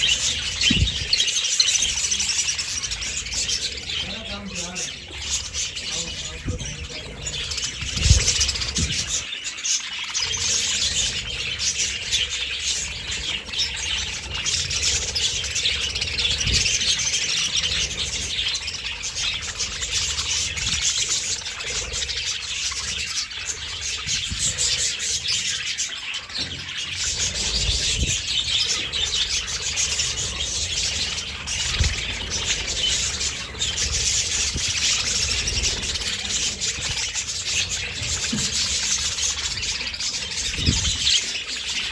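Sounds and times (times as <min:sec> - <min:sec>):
budgerigars chattering and chirping: 0:00.0 - 0:41.9.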